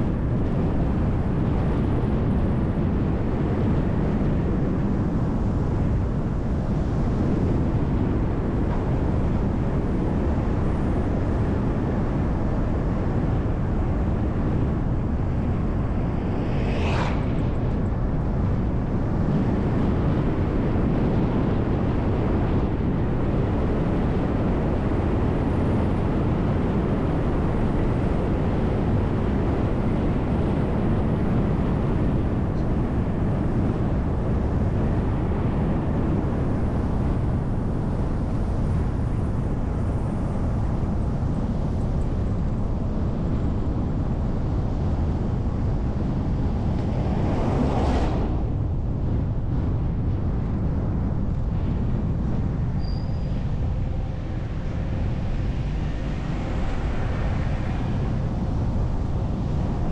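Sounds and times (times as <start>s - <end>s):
bus engine and tyres rumbling: 0.0s - 59.9s.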